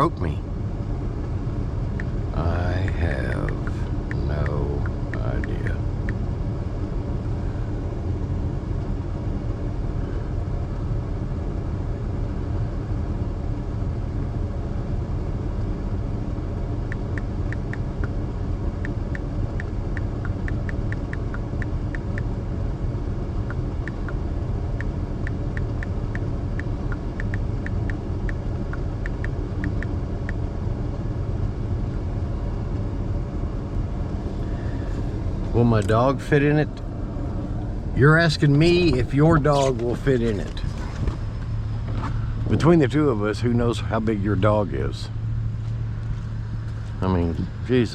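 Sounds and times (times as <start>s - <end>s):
vehicle engine idling: 0.0s - 47.9s.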